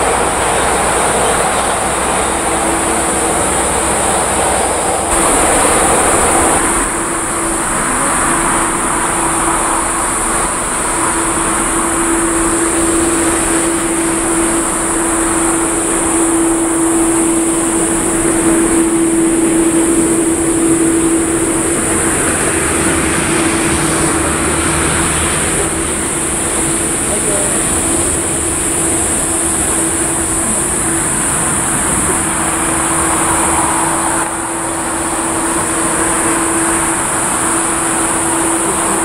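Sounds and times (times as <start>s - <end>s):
jet engines idling: 0.0s - 39.0s.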